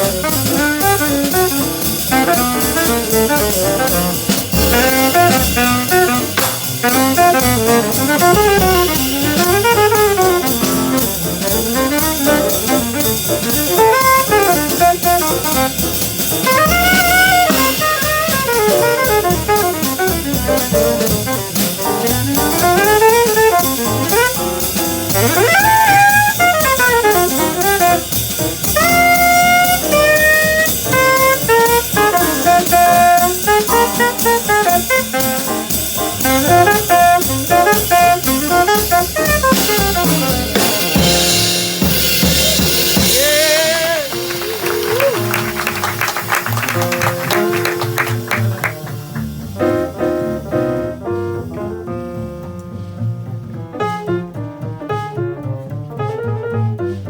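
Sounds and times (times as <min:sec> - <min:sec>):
saxophone solo: 0:00.0 - 0:49.0
drum kit: 0:00.0 - 0:57.0.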